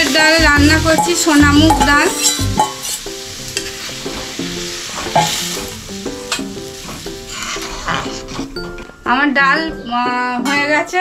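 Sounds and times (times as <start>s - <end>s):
food sizzling while stirred: 0.0s - 9.0s
soft background music: 0.0s - 11.0s.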